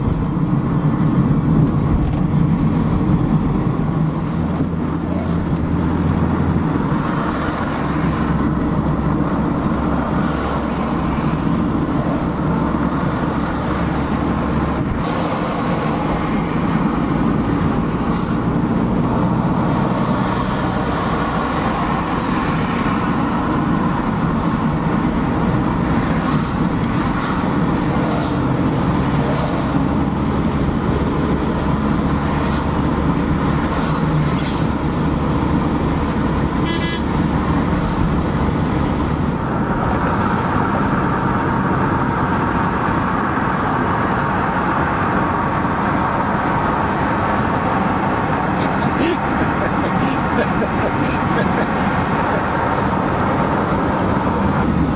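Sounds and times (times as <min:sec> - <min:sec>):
van engine and tyre noise: 0:00.0 - 0:54.9.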